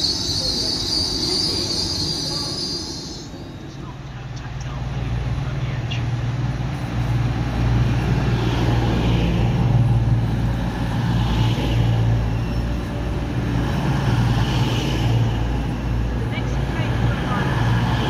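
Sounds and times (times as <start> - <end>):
train diesel engines humming: 0.0 - 18.0.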